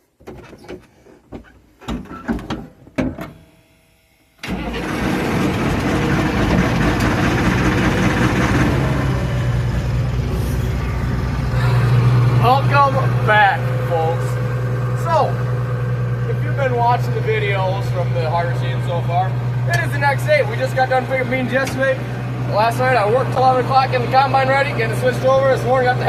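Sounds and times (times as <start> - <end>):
diesel engine starting and running: 4.4 - 26.0.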